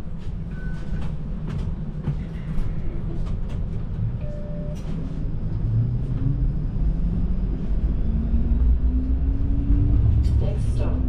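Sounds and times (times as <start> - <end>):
streetcar rumble: 0.0 - 11.0.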